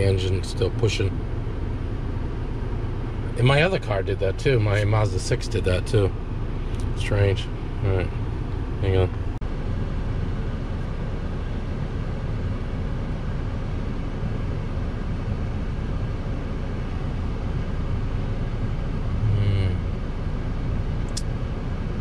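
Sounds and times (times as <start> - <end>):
car cabin hum and fan hiss: 0.0 - 22.0.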